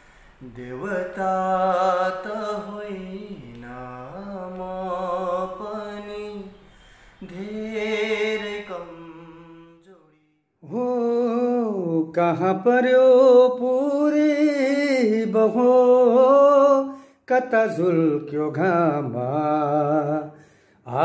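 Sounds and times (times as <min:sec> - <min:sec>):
another man singing: 0:00.4 - 0:06.6, 0:07.2 - 0:21.0
man singing unaccompanied: 0:00.4 - 0:21.0.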